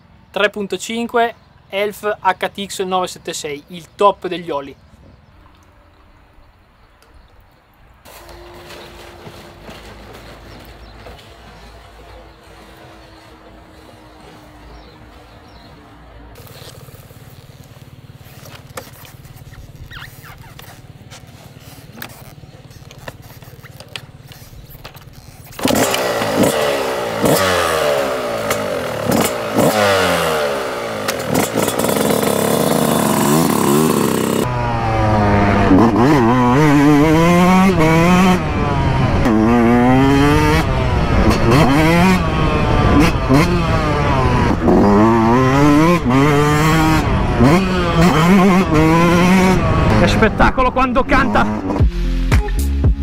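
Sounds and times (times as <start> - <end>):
motocross engine revving: 8.1 - 24.3, 25.1 - 52.2.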